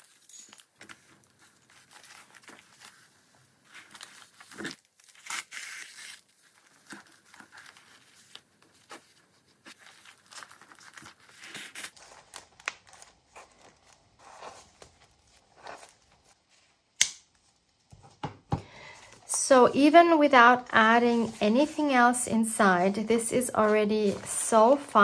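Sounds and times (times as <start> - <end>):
paper pages rustling: 0.0 - 18.1, 20.4 - 25.0.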